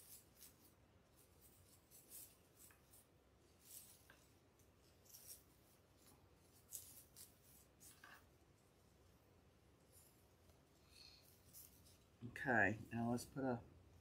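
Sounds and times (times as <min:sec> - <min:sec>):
fabric ribbon rustling: 0:00.0 - 0:13.2.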